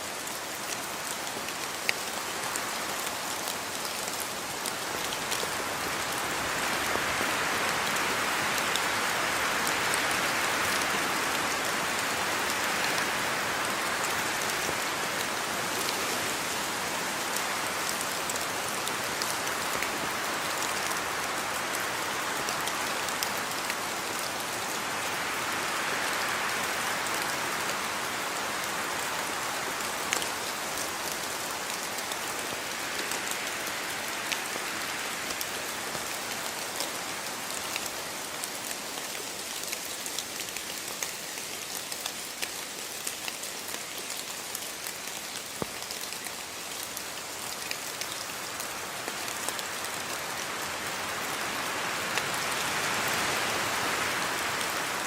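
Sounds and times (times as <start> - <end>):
steady rainfall: 0.0 - 55.0
rain drops ticking: 0.1 - 55.0.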